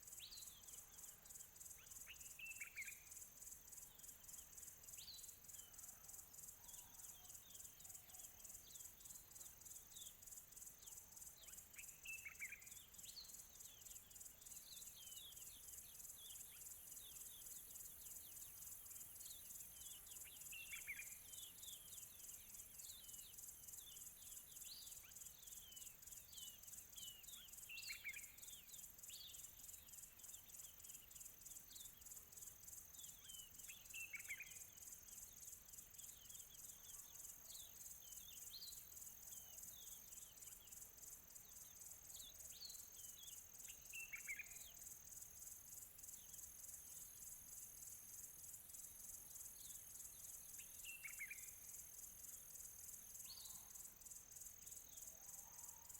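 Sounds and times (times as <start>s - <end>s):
faint crickets trilling: 0.0s - 55.9s.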